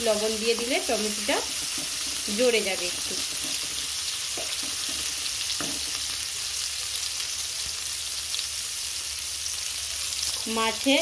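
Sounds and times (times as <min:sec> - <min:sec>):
tomato and spices sizzling in oil: 0:00.0 - 0:11.0.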